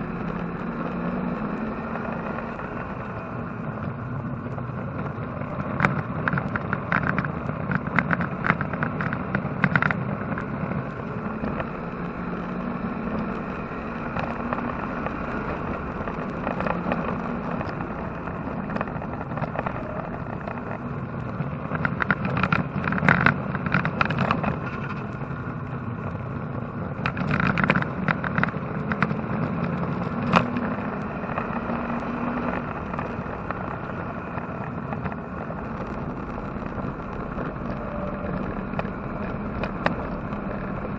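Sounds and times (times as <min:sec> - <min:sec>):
race car engine running: 0:00.0 - 0:40.9.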